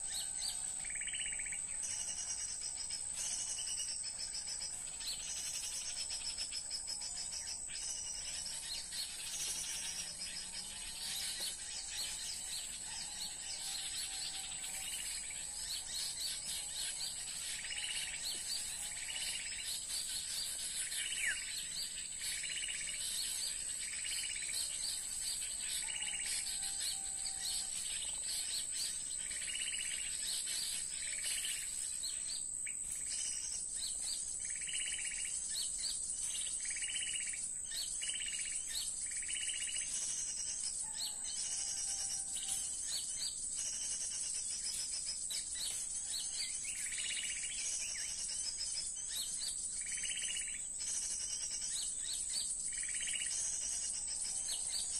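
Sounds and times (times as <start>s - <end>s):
constant high-pitched tone: 0.0s - 54.9s
small bird chirping calls: 0.0s - 54.9s.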